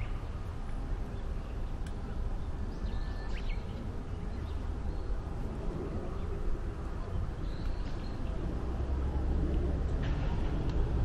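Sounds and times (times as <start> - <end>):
low rumble: 2.0 - 11.0.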